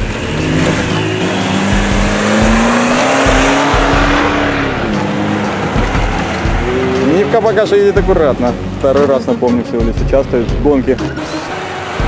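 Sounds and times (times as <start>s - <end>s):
race car engine pulling hard: 0.0s - 12.0s.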